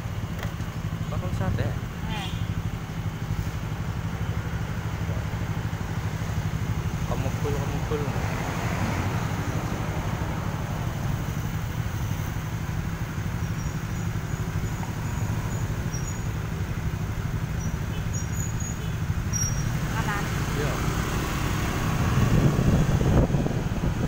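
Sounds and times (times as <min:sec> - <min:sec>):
motorcycle engine idling: 0:00.0 - 0:08.2, 0:09.4 - 0:21.1.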